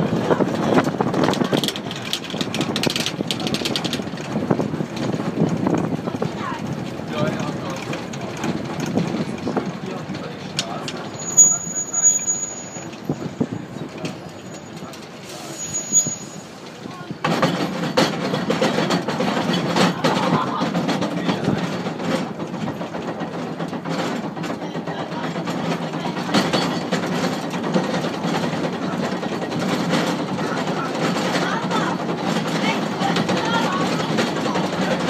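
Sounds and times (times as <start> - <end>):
rack railway train rumbling: 0.0 - 35.0.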